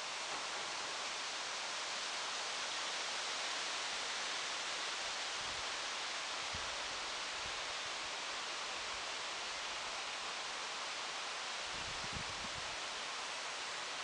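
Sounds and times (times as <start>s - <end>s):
steady rustling hiss: 0.0s - 14.0s.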